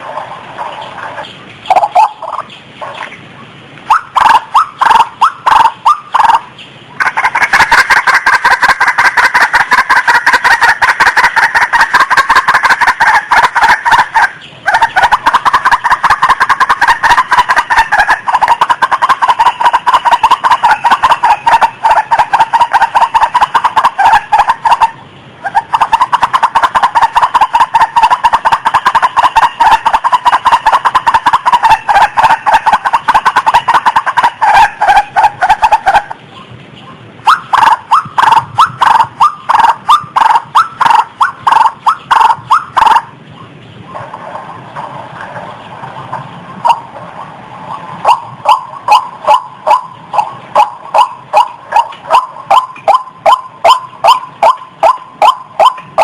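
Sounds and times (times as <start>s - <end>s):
rail clucking calls: 0.0s - 56.0s.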